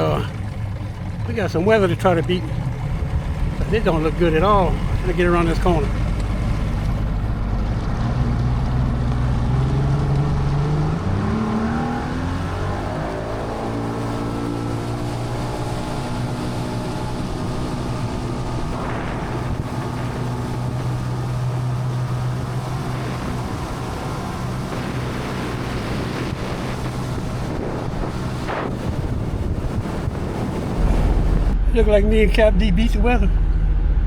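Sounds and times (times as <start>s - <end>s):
boat engine running: 0.0s - 34.0s
wind buffeting microphone: 0.0s - 34.0s.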